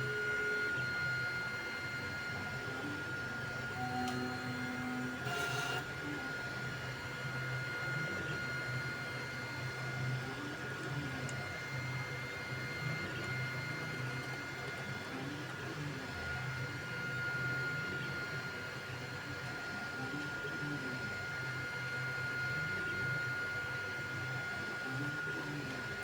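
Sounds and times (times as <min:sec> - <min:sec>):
printer steady hum: 0:00.0 - 0:26.0.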